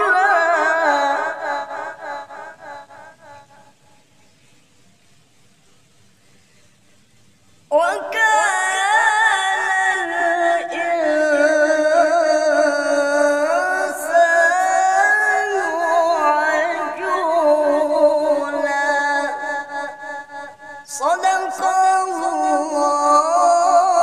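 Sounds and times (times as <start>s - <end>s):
man reciting melodically: 0.0s - 3.7s, 7.7s - 24.0s.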